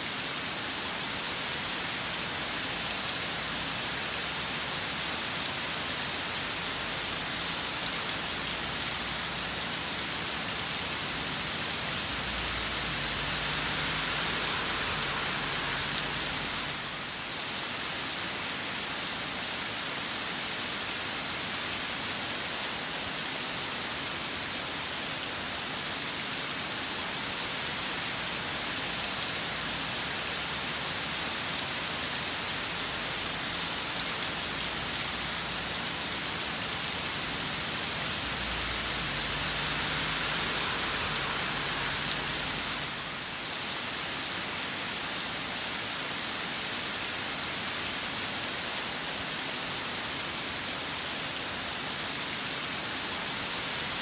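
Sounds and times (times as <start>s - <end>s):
rain falling steadily: 0.0s - 54.0s.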